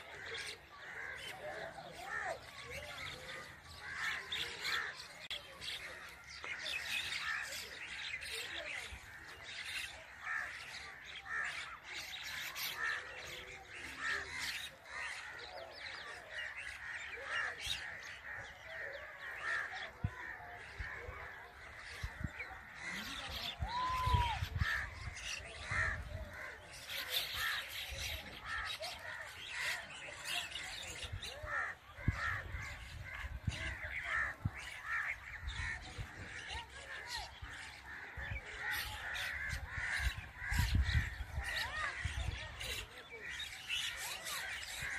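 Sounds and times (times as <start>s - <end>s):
mynas chattering calls: 0.0s - 44.9s.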